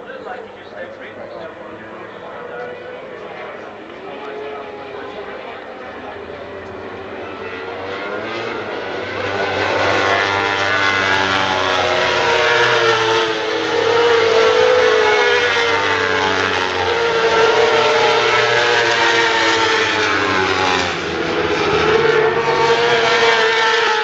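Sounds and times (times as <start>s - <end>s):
racing motorcycles at high revs: 1.9s - 24.0s.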